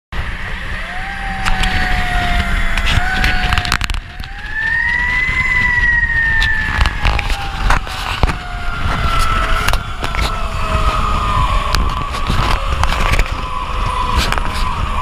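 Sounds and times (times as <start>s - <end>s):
engine and road rumble: 0.1s - 15.0s
fire truck siren: 0.2s - 15.0s.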